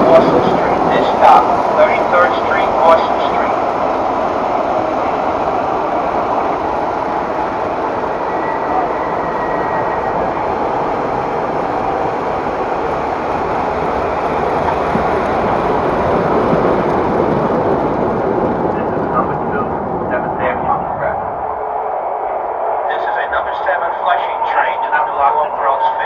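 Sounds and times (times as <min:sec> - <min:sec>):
model train running on track: 0:00.0 - 0:21.2, 0:23.1 - 0:26.0.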